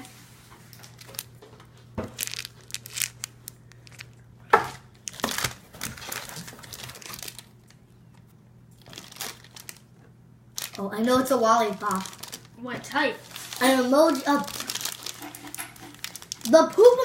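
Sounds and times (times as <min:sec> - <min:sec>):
wrapping crinkling: 0:00.6 - 0:04.3, 0:04.9 - 0:17.0.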